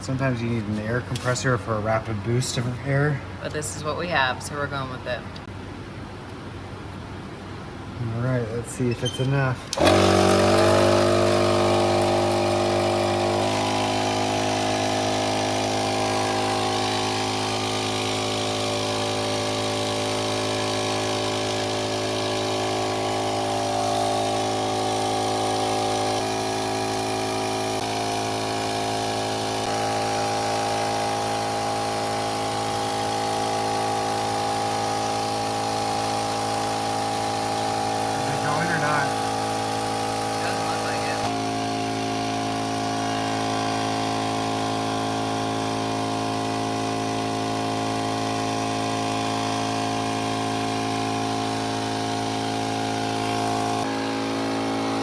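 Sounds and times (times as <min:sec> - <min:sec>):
air compressor humming: 0:00.0 - 0:55.0.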